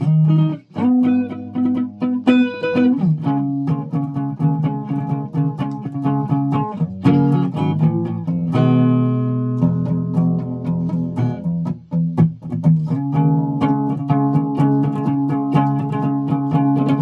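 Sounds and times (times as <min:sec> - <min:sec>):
guitar plucked note by note: 0:00.0 - 0:17.0.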